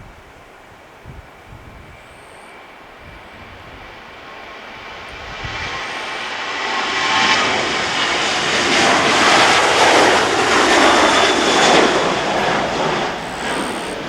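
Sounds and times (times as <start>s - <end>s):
jet airliner taking off: 1.7s - 14.0s.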